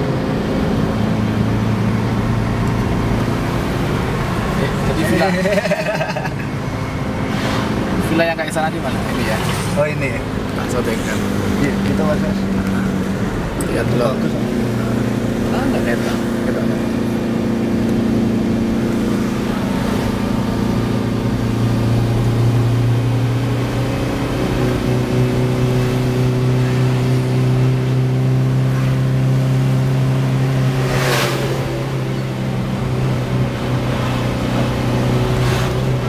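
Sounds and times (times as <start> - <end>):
car engine pulling uphill: 0.0 - 36.0
vehicle rushing past: 6.2 - 36.0.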